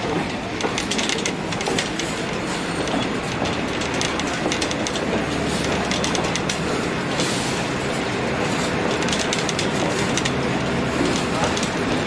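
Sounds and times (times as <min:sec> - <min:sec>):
train cars rumbling: 0:00.0 - 0:12.0
wheel clicks over rail joints: 0:00.0 - 0:12.0.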